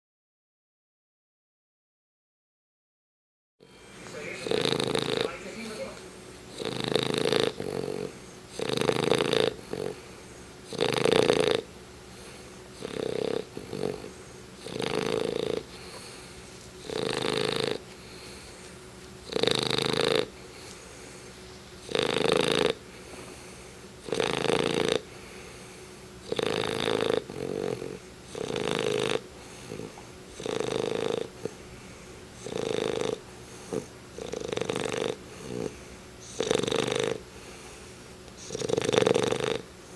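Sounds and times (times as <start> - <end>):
dog snoring loudly: 3.6 - 39.9
dog breathing quietly: 3.8 - 39.9.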